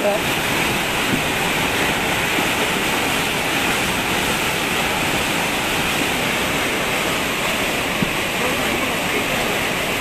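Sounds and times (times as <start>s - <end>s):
floodwater rushing in a channel: 0.0s - 10.0s.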